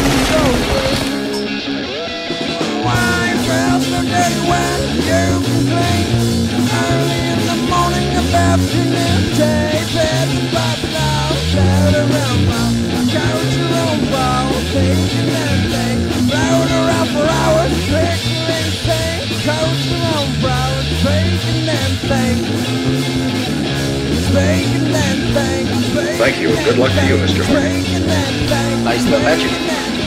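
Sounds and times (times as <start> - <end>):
punk rock band playing: 0.0 - 30.0
wavering lead guitar melody: 0.0 - 30.0.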